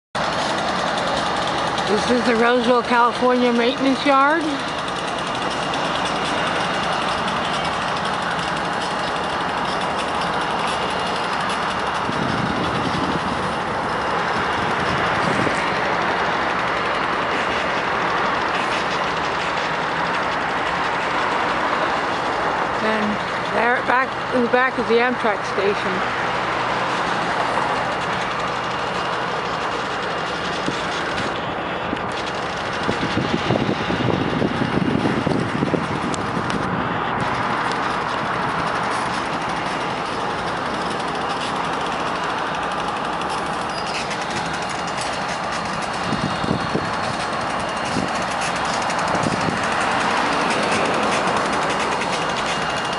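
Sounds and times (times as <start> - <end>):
diesel locomotive engines running: 0.1 - 52.9
low knocking and rumbling: 0.2 - 52.9
trains and machinery rumbling: 0.2 - 52.9.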